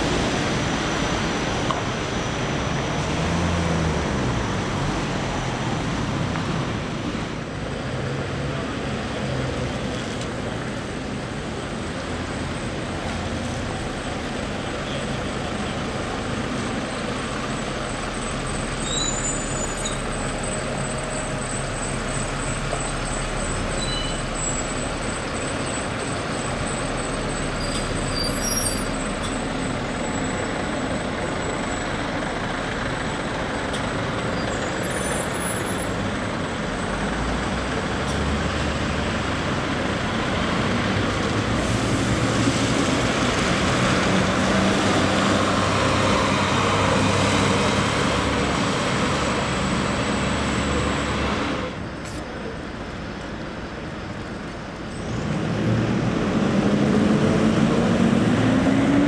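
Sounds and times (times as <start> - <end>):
bus engine: 0.0 - 59.0
street traffic: 0.0 - 59.0.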